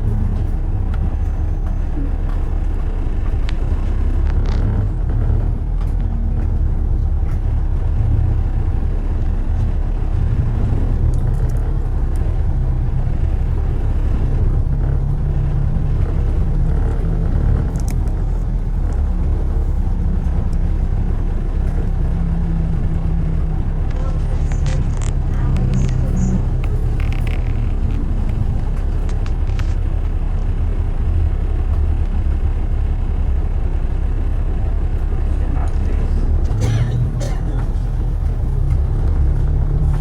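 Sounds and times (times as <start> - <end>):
car driving road noise: 0.0 - 40.0.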